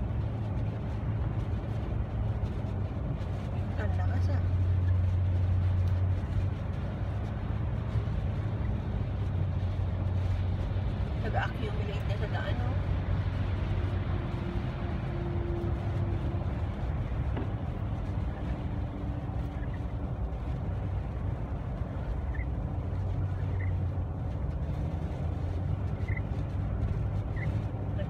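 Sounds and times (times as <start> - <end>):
car road drone from inside cabin: 0.0 - 28.0.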